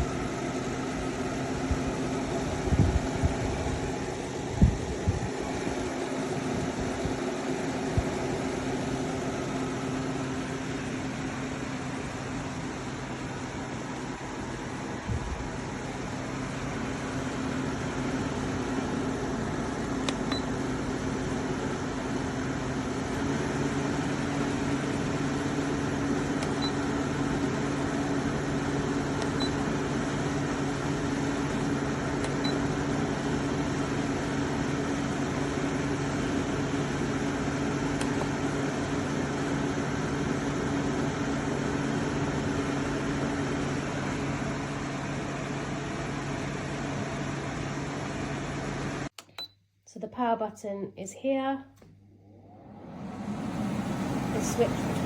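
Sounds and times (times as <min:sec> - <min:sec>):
air conditioner humming: 0:00.0 - 0:48.1, 0:49.1 - 0:55.0.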